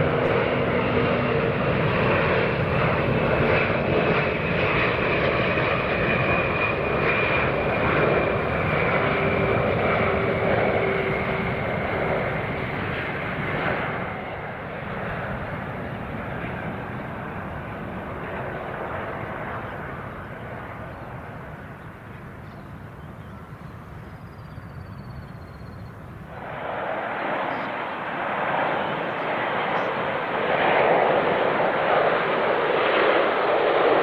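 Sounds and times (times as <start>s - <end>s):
jet engines rumbling with whine: 0.0s - 34.0s.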